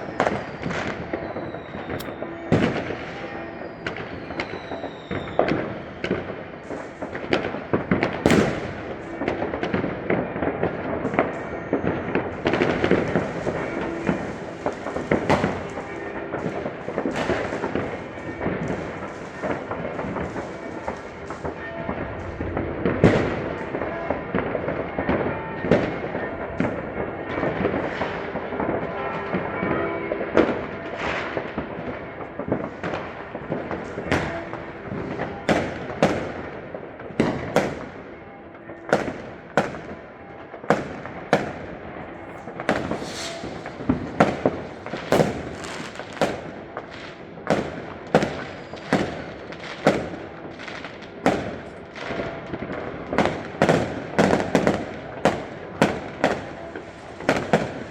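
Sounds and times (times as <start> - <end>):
fireworks and firecrackers banging: 0.0 - 57.9.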